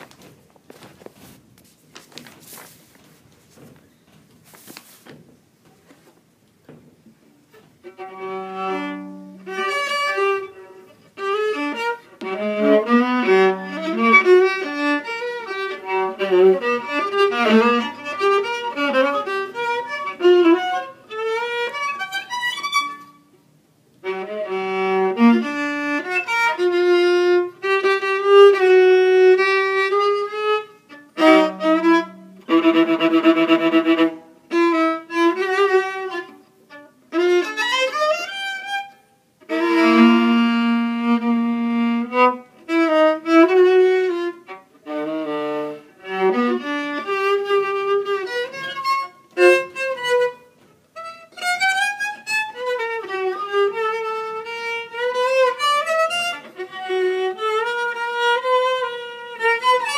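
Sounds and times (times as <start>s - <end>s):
solo violin: 6.6s - 59.9s.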